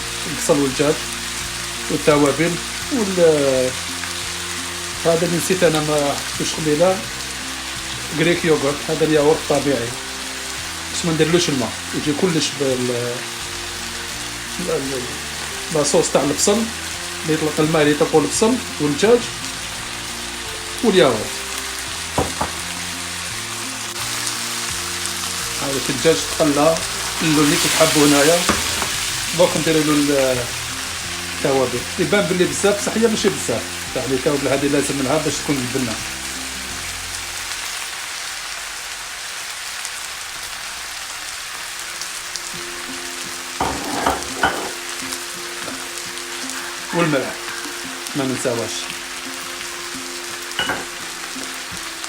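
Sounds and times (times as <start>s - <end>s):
chicken and onions sizzling in pan: 0.0s - 52.0s.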